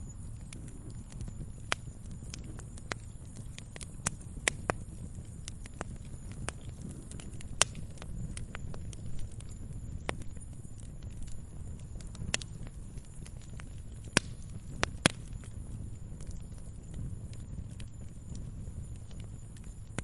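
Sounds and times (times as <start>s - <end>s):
low rumble of burning: 0.0s - 20.0s
sharp fire pops: 0.0s - 20.0s
wood fire crackling: 0.0s - 20.0s.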